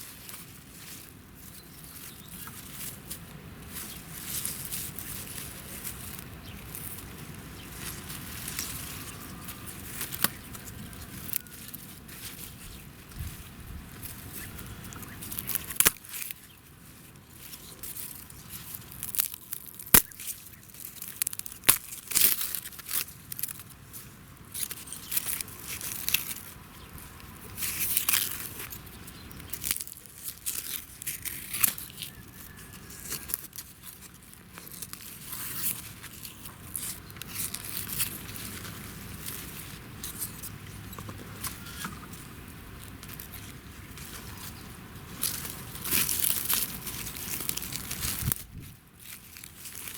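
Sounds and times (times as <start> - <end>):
dry plants crackling and rustling: 0.0 - 49.9.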